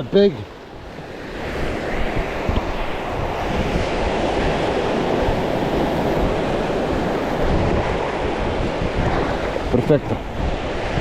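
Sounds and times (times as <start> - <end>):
small waves washing at shore: 0.0 - 11.0
wind buffeting microphone: 0.0 - 11.0.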